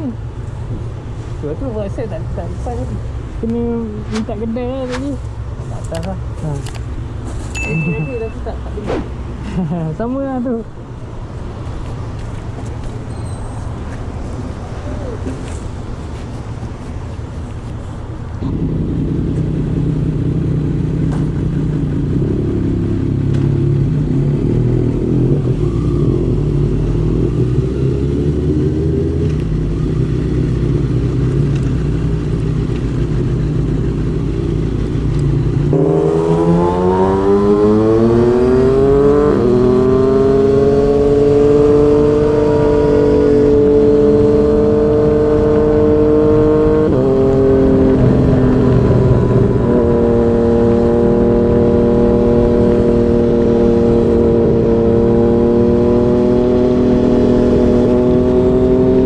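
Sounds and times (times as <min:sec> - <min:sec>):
motorcycle engine accelerating: 0:10.9 - 0:59.0.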